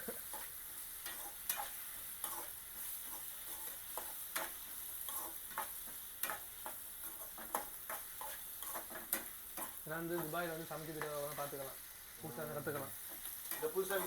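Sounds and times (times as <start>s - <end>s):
vegetables sizzling in oil: 0.0s - 14.0s
spoon scraping a pan: 0.2s - 11.7s, 12.6s - 14.0s.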